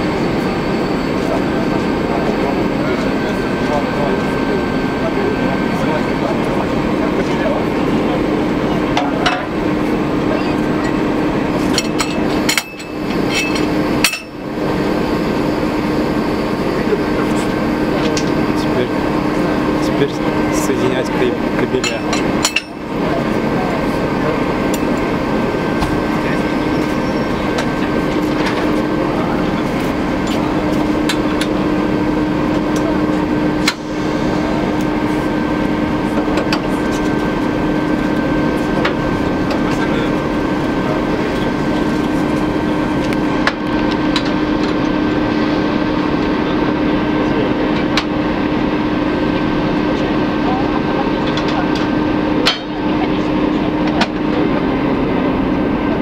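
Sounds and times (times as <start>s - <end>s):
diesel locomotive idling: 0.0s - 56.0s
loud machinery hum: 0.0s - 56.0s.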